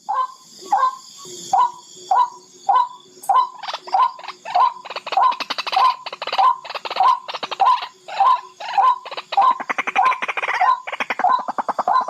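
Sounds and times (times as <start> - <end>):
bird rattling call: 1.6 - 12.0.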